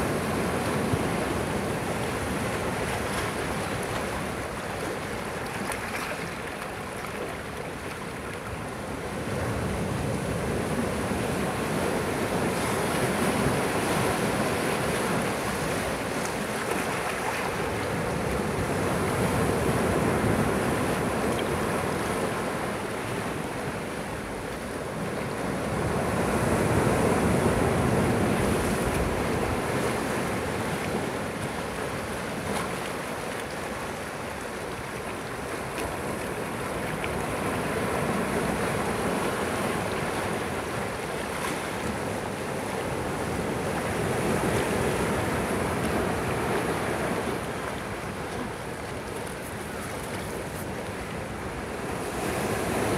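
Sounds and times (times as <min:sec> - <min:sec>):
sea waves breaking on rocks: 0:00.0 - 0:52.9.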